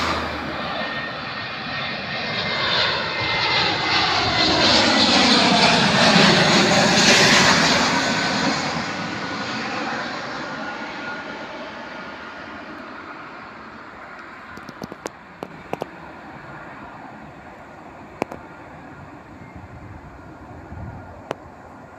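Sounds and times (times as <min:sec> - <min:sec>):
jet engines passing overhead: 0:00.0 - 0:21.9.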